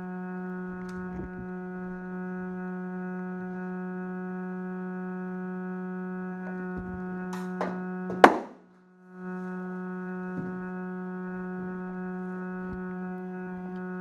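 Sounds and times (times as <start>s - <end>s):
electrical buzz: 0.0s - 14.0s.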